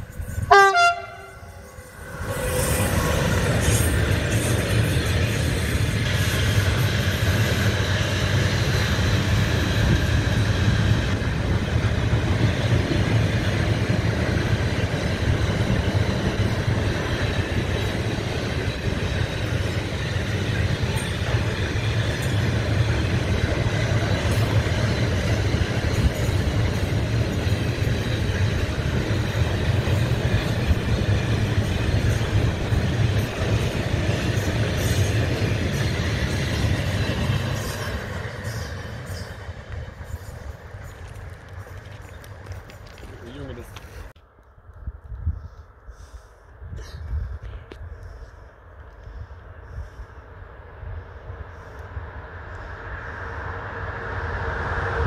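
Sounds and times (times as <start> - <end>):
freight train wheels rumbling on rails: 0.0 - 44.2.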